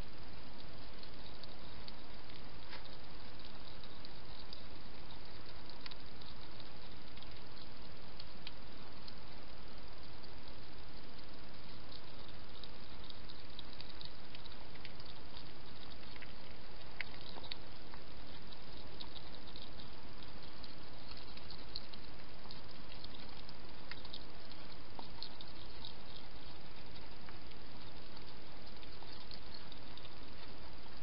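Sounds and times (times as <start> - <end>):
hedgehog feeding wet clicks: 0.0 - 31.0
steady hiss: 0.0 - 31.0.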